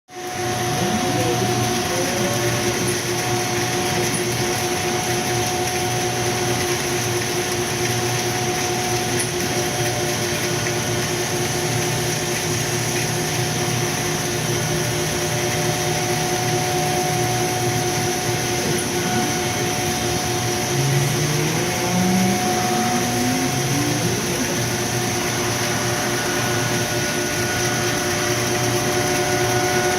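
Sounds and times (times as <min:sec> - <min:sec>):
cutting machine droning: 0:00.1 - 0:29.9.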